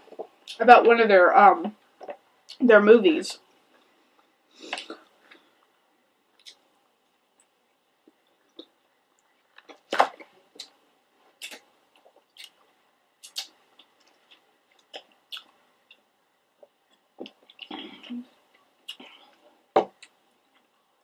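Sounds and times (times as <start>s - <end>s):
chewing food: 3.7s - 21.0s.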